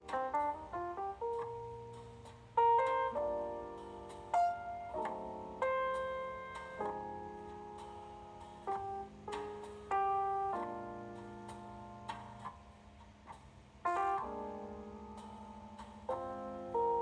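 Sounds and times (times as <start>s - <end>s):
solo jazz piano: 0.0s - 17.0s.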